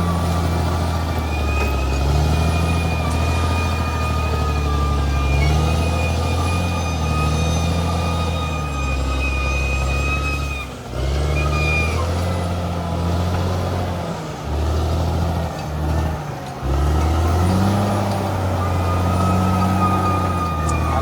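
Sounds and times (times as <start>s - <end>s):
bulldozer diesel engine under load: 0.0s - 21.0s.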